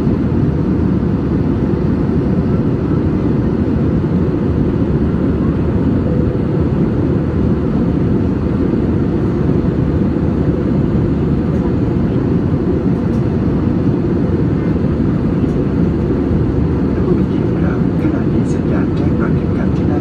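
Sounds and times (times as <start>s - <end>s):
jet engines and rushing air: 0.0s - 20.0s.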